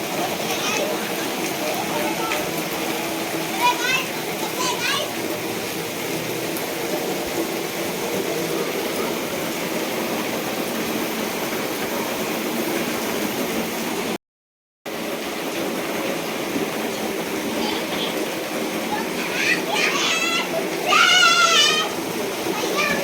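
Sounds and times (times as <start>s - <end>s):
heavy rain falling: 0.0s - 14.2s, 14.9s - 23.0s.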